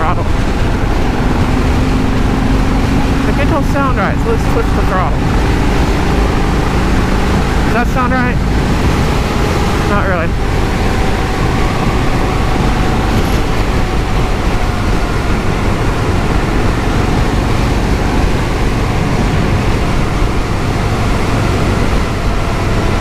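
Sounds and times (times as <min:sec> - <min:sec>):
motorcycle engine running: 0:00.0 - 0:23.0
road noise: 0:00.0 - 0:23.0
wind noise: 0:00.0 - 0:23.0.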